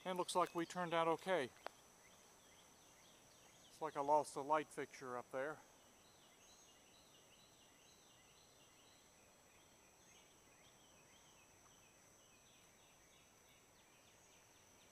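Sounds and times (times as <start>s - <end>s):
faint bird chirps: 0.0s - 14.9s.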